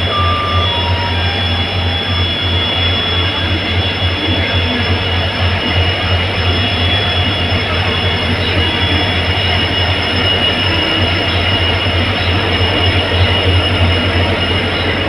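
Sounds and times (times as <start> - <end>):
diesel locomotives deep hum: 0.0 - 15.0
high-pitched whine: 0.0 - 15.0.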